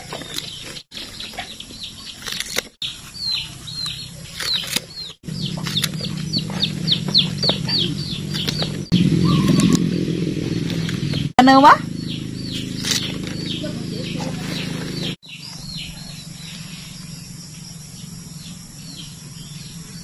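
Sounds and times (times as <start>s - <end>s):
bird chirping high falling chirps: 0.4s - 20.0s.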